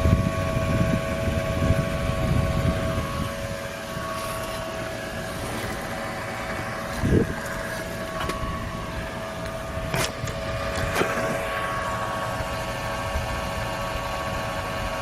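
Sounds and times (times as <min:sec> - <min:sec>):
low hum: 0:00.0 - 0:15.0
whine of held tones: 0:00.0 - 0:15.0.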